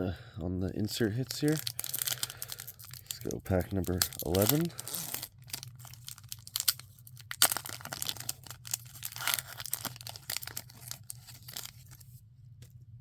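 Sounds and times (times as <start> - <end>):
wrapper tearing and crinkling: 0.9 - 12.1.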